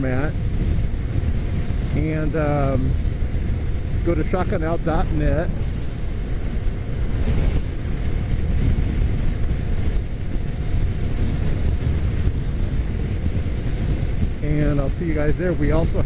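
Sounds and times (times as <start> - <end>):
motorcycle engine rumble: 0.0 - 16.0
wind noise on microphone: 0.0 - 16.0.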